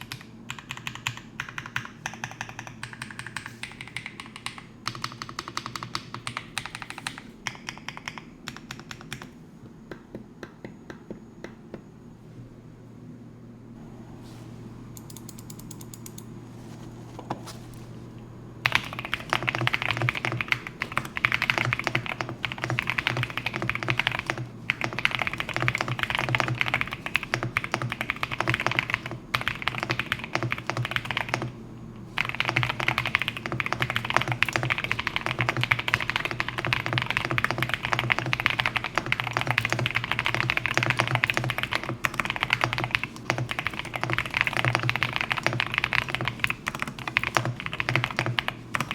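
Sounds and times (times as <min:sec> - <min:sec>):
fast mechanical keyboard typing: 0:00.0 - 0:09.4, 0:15.0 - 0:16.3, 0:18.6 - 0:48.9.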